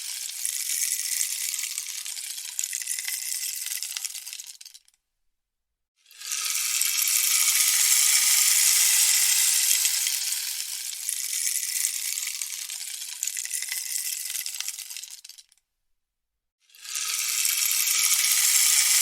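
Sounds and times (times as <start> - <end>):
rainstick pebbles trickling: 0.0 - 4.9, 6.2 - 15.6, 16.8 - 19.0.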